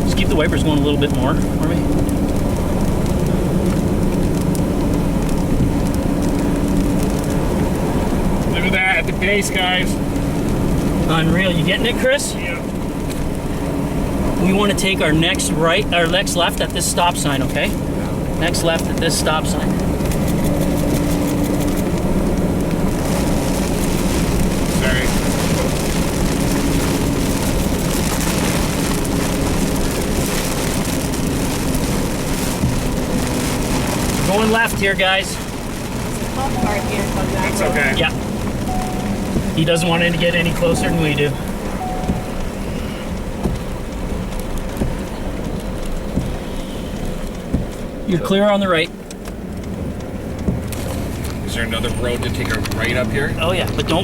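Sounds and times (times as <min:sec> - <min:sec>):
car engine and road noise: 0:00.0 - 0:54.0
rain hitting windshield: 0:00.0 - 0:54.0
vehicle cabin rumble: 0:00.0 - 0:54.0.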